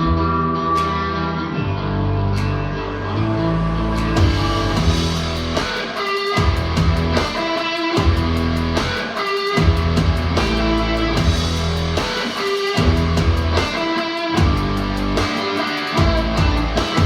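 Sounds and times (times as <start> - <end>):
rock music through speaker: 0.0 - 17.0.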